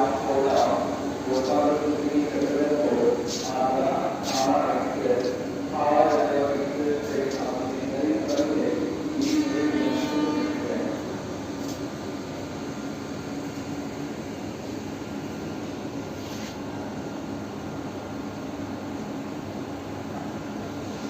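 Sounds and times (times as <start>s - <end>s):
steady mechanical drone: 0.0s - 21.0s.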